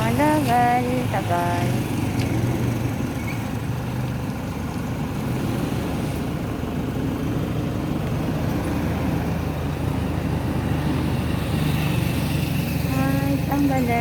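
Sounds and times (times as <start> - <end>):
road noise: 0.0 - 14.0
vehicle engine idling: 0.0 - 14.0.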